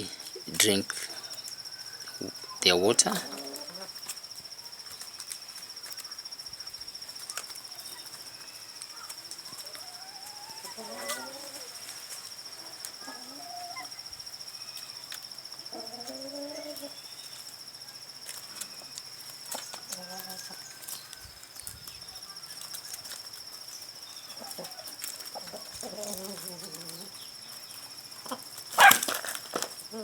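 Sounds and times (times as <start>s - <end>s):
chicken calls: 0.0s - 4.2s, 7.1s - 17.5s, 18.2s - 30.0s
insect trill: 0.0s - 30.0s.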